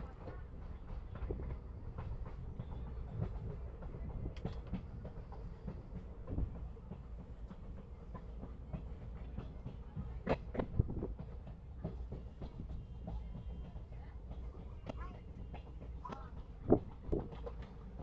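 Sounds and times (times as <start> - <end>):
train rumbling: 0.0 - 18.0
wheels clacking on rails: 0.0 - 18.0.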